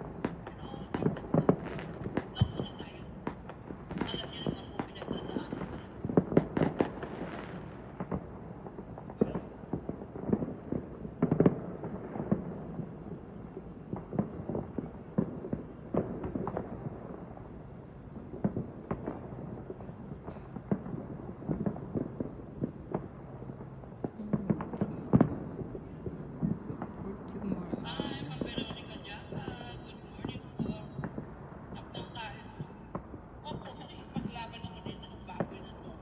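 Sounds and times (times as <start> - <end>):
fireworks bangs and pops: 0.0 - 36.0.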